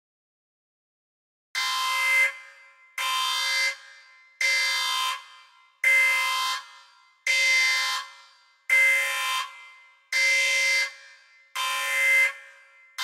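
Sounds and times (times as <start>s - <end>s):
electronic alarm blasts: 1.6s - 13.0s.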